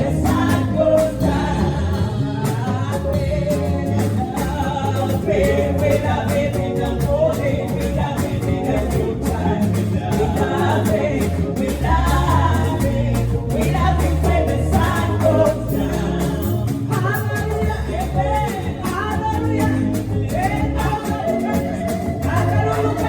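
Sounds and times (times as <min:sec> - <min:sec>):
band with bass and beat: 0:00.0 - 0:23.0
gospel singing: 0:00.0 - 0:23.0.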